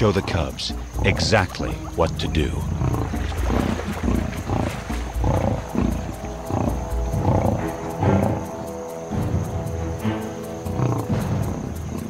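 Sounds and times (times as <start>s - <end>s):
lions growling: 0.0s - 9.8s, 10.6s - 12.0s
background music: 0.0s - 12.0s.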